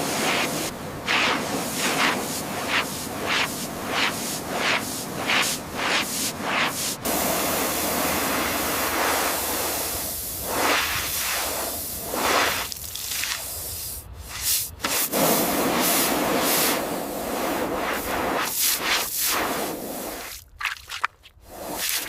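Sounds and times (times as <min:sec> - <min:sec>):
hissing water spray: 0:00.0 - 0:20.5, 0:21.4 - 0:22.0.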